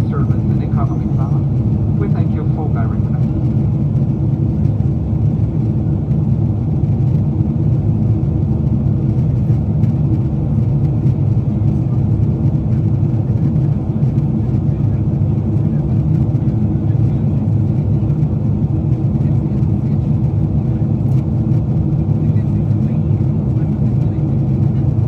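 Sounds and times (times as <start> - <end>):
aircraft cabin engine drone: 0.0 - 25.0.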